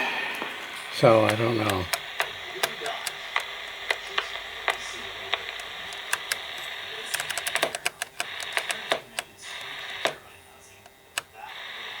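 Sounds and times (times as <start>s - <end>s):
radio static hiss: 0.0s - 12.0s
sharp clicks: 1.0s - 11.4s.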